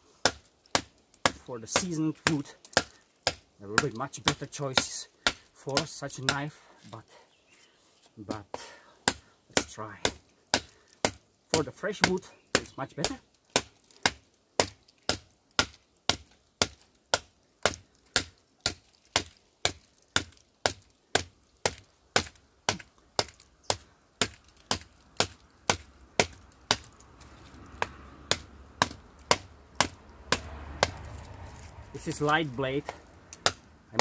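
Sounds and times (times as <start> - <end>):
knife chopping into wood: 0.2 - 6.5, 8.5 - 34.0.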